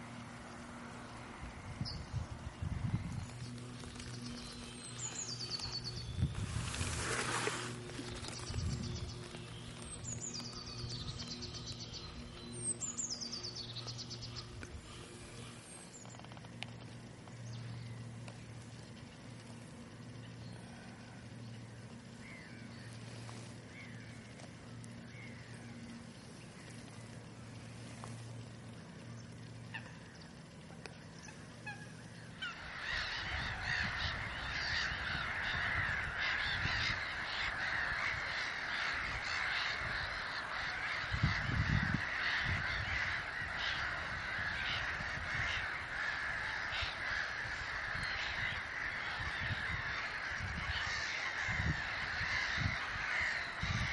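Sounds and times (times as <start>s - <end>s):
birds calling harshly: 0.0s - 53.9s
faint low hum: 7.6s - 53.9s.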